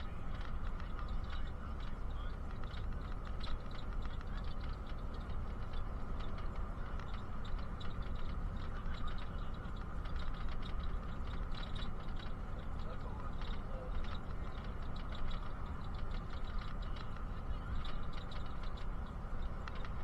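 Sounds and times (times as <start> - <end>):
bus engine and road rumble: 0.0 - 20.0
small ticks and rattles: 0.0 - 20.0.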